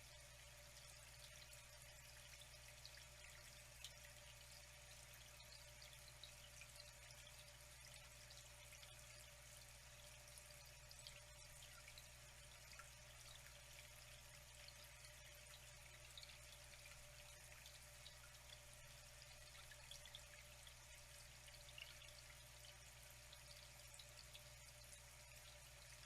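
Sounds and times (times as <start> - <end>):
water trickling and dripping: 0.0 - 26.0.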